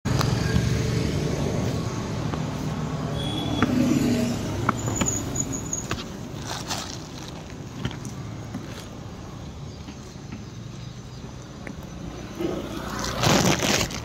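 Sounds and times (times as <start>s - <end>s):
road traffic noise: 0.0s - 14.0s
vehicle engine humming: 0.1s - 14.0s.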